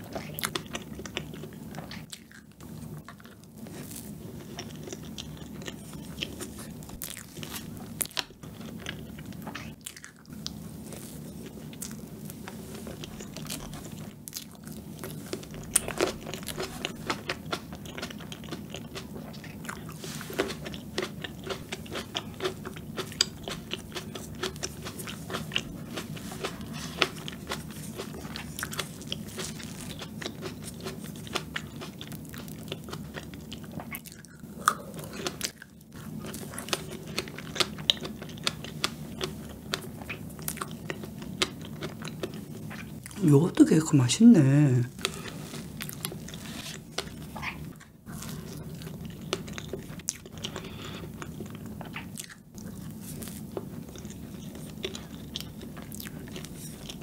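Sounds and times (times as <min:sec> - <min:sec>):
chewing and biting: 0:00.0 - 0:43.2, 0:44.9 - 0:57.0
food crunching: 0:00.0 - 0:57.0.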